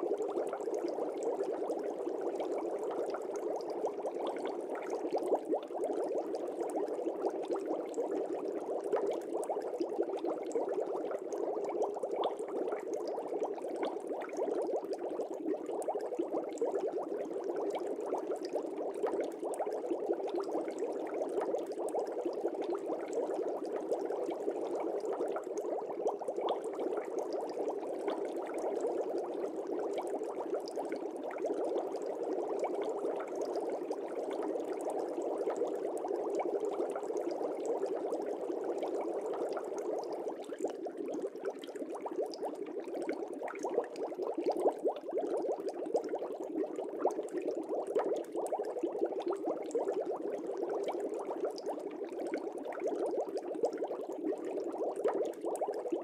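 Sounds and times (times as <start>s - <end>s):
fish tank bubbling: 0.0s - 56.0s.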